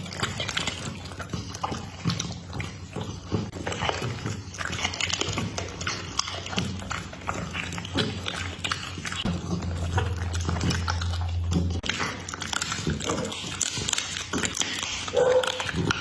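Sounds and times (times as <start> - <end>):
dog chewing food: 0.0 - 16.0.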